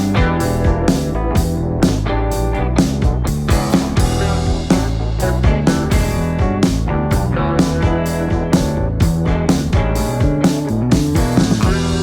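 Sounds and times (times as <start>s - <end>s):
music with guitar and drums: 0.0s - 12.0s.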